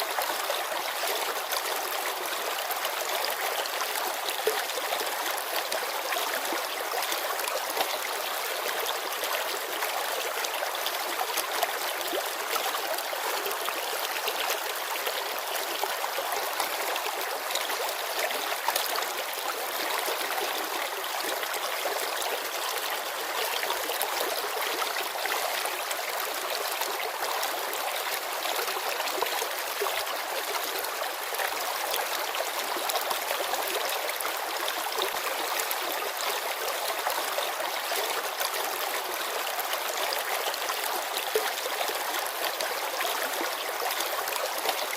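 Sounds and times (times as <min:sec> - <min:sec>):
river babbling over stones: 0:00.0 - 0:44.9.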